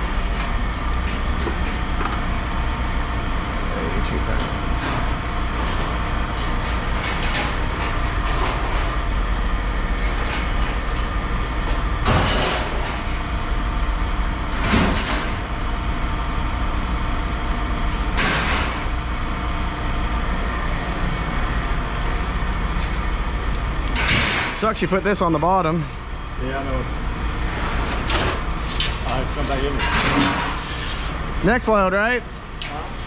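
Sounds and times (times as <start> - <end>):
heavy machinery rumbling: 0.0 - 33.0.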